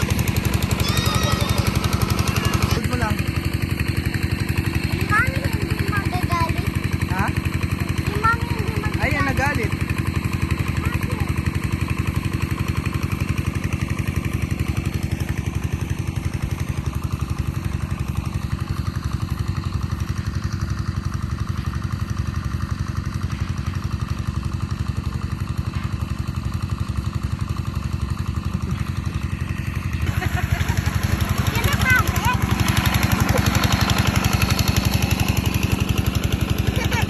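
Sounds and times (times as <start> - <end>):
small engine puttering: 0.0 - 37.0.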